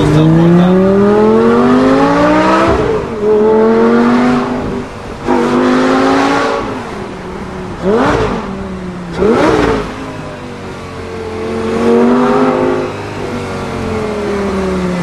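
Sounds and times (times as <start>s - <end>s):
sports car engine revving and idling: 0.0s - 15.0s.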